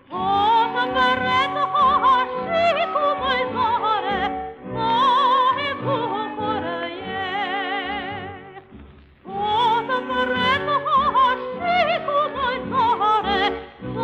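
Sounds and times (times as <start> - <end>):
soprano singing with vibrato: 0.0 - 14.0.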